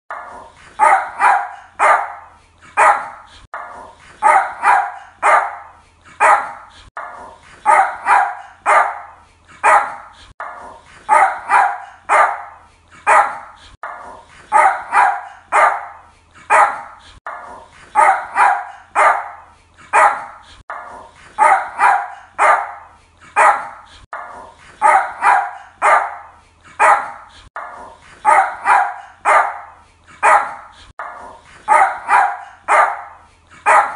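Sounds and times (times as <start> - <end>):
small dog barking: 0.1 - 6.6, 7.7 - 10.0, 11.1 - 13.5, 14.5 - 16.9, 18.0 - 27.2, 28.2 - 31.1, 31.7 - 33.9.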